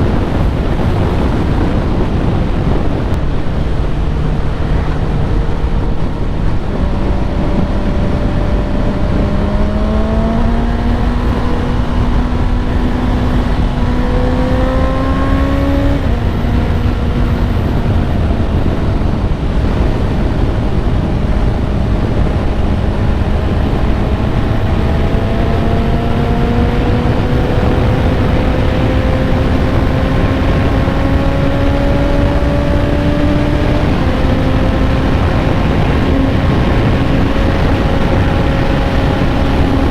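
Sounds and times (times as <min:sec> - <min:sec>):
heavy wind noise: 0:00.0 - 0:39.9
motorcycle engine accelerating: 0:00.0 - 0:39.9.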